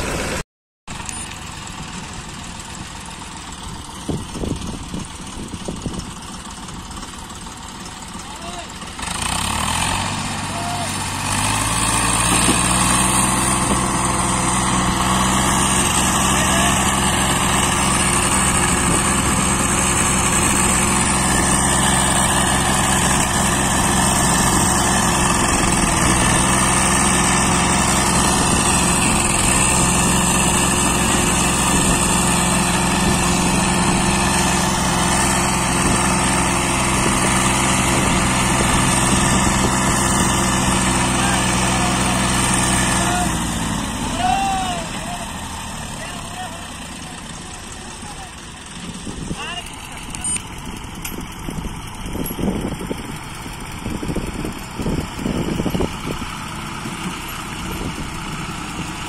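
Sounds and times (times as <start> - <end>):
tractor diesel engine at high revs: 0.0 - 59.0.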